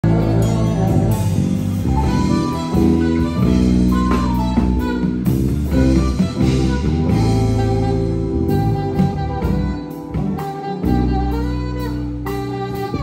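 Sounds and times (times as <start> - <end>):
live band playing: 0.0 - 13.0
saxophone lead: 0.0 - 13.0.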